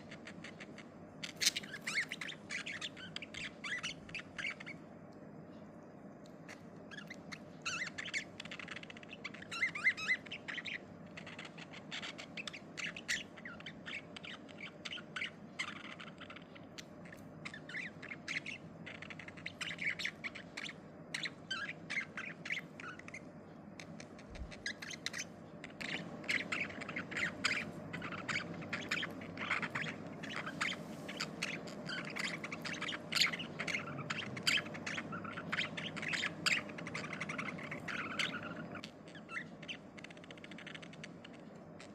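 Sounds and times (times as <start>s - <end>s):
budgerigars chirping and squawking: 0.0s - 4.9s, 6.4s - 41.9s
low background hiss: 0.0s - 41.9s.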